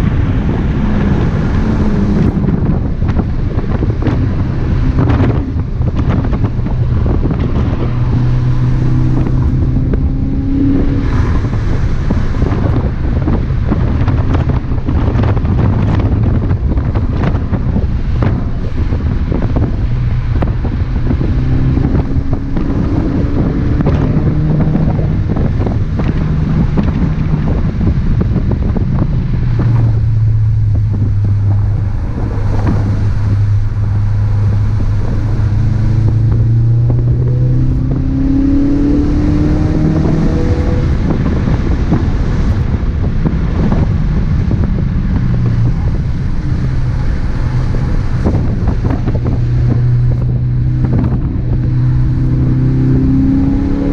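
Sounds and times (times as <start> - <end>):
car engine accelerating and shifting: 0.0 - 53.9
wind and road noise: 0.0 - 53.9.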